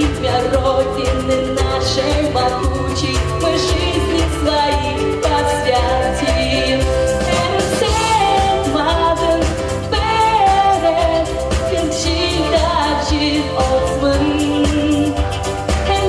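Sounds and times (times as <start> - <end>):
folk-pop song with singing: 0.0 - 16.0.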